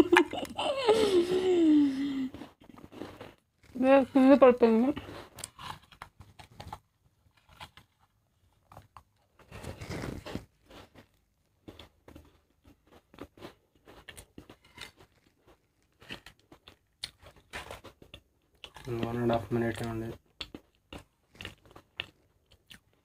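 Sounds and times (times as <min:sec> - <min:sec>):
person chewing biscuits: 0:02.0 - 0:03.8, 0:04.9 - 0:23.0.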